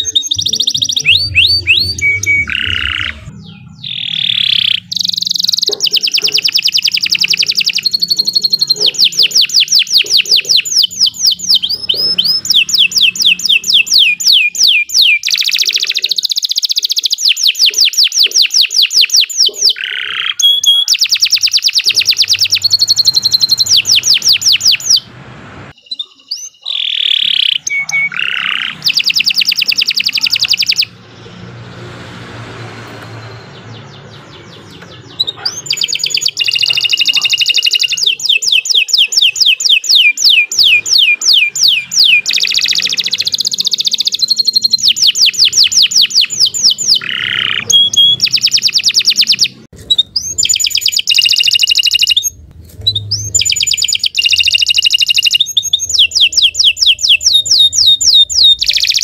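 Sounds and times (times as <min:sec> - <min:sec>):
canary singing trills: 0:00.0 - 0:25.1, 0:25.7 - 0:31.8, 0:33.1 - 0:59.0.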